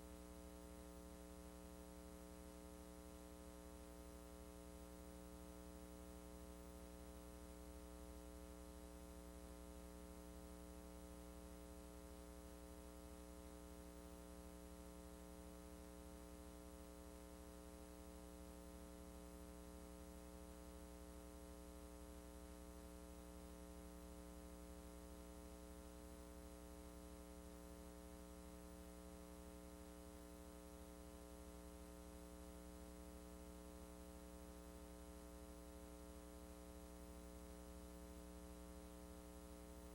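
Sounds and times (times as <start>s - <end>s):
faint mains hum: 0.0s - 39.9s.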